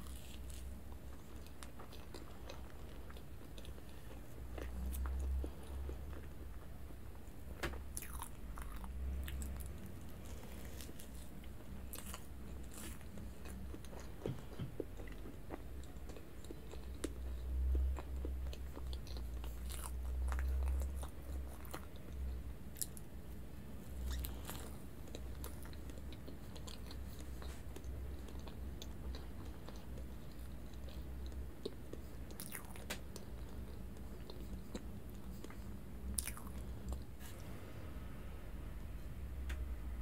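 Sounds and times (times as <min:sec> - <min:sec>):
chewing cake: 0:00.0 - 0:07.2, 0:07.9 - 0:23.1, 0:23.8 - 0:37.1.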